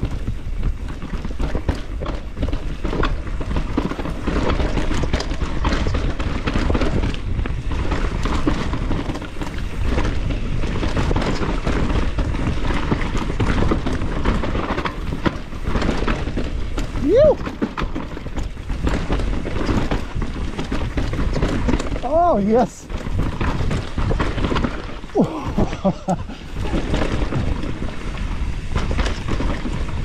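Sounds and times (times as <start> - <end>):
bike rattling: 0.0 - 30.0
bike tyres rumbling over dirt: 0.0 - 30.0
wind on microphone: 0.0 - 30.0.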